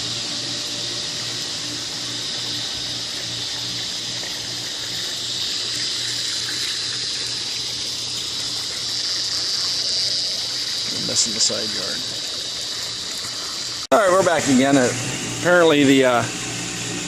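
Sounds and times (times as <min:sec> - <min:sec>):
pulsing pump hum: 0:00.0 - 0:17.0
water rushing through pipes: 0:00.0 - 0:17.0.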